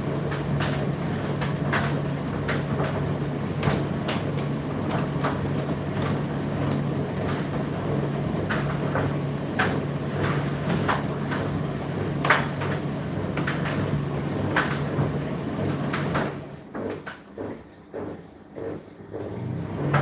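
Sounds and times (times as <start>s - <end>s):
tumble dryer motor and fan hum: 0.0s - 20.0s.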